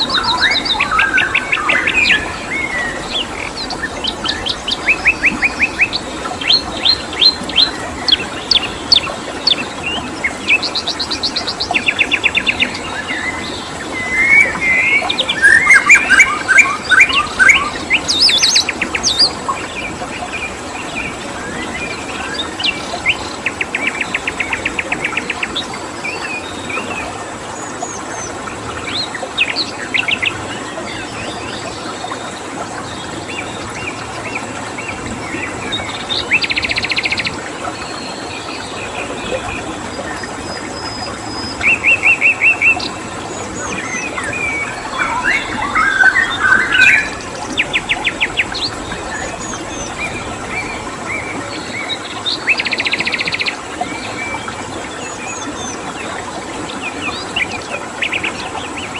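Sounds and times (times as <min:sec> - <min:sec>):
running water hiss: 0:00.0 - 0:58.9
wild birds singing: 0:00.0 - 0:58.9.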